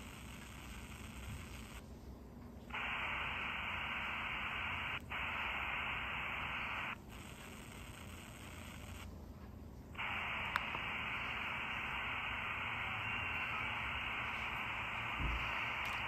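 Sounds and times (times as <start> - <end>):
radio static hiss: 0.0 - 1.9, 2.7 - 9.2, 9.9 - 16.0.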